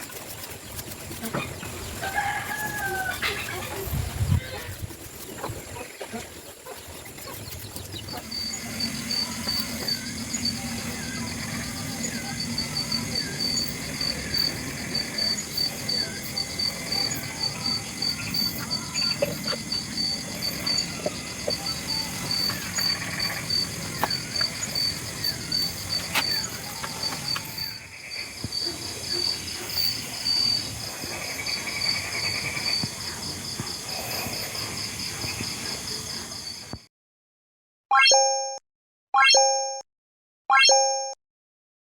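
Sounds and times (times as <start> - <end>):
insect pulsing trill: 0.0 - 36.7.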